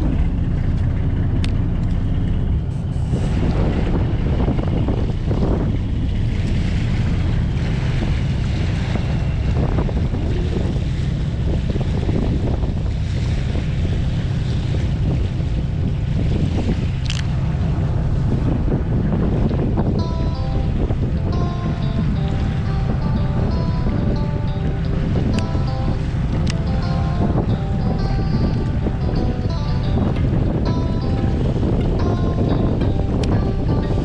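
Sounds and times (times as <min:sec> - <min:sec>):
boat engine rumbling: 0:00.0 - 0:34.0
water washing against hull: 0:00.0 - 0:34.0
wind buffeting microphone: 0:00.0 - 0:34.0.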